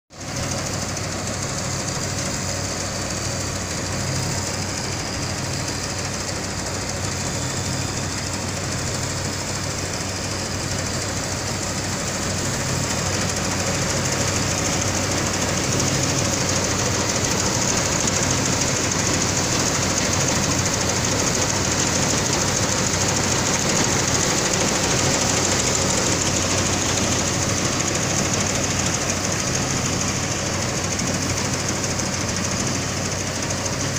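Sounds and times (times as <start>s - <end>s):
combine harvester droning: 0.2s - 33.9s.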